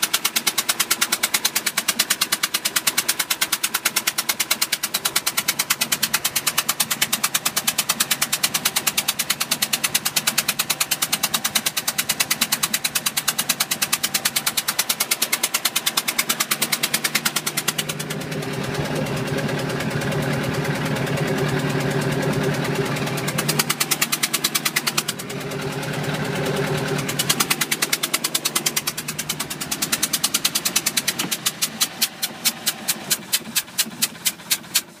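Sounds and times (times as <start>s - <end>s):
boat engine knocking: 0.0s - 35.0s.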